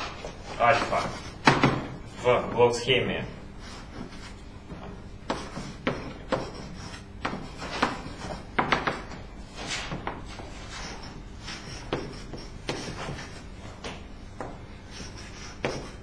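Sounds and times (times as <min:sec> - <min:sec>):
chalk writing on blackboard: 0:00.2 - 0:01.8, 0:03.6 - 0:16.0.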